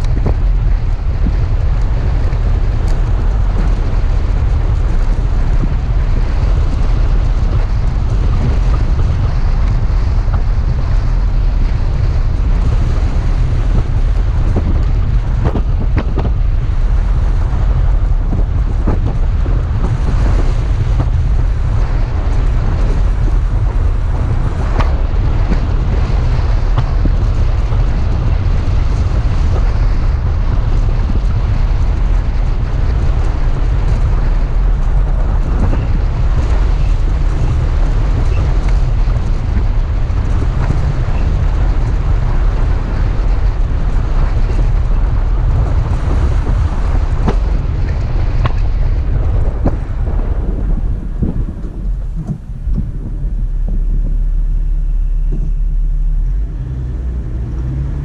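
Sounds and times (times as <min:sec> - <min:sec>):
vehicle driving low rumble: 0:00.0 - 0:58.0
wind buffeting microphone: 0:00.0 - 0:58.0.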